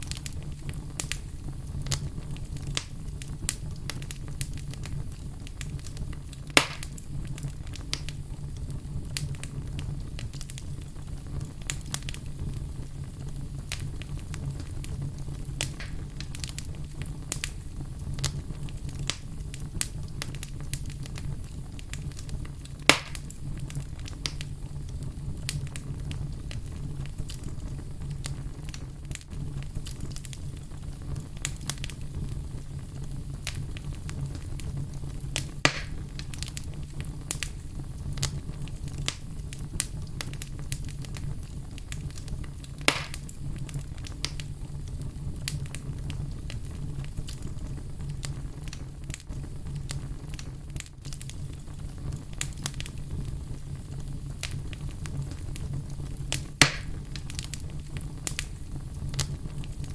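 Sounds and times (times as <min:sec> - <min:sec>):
fire crackling: 0:00.0 - 0:59.9
loud fire pops: 0:00.0 - 0:59.9.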